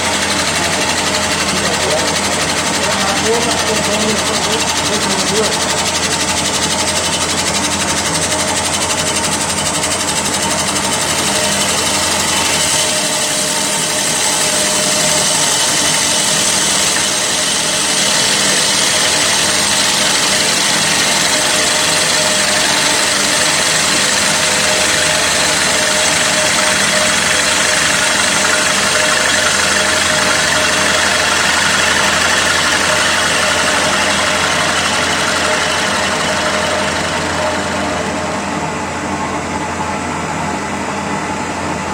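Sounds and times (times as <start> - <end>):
wood lathe whine: 0.0 - 41.9.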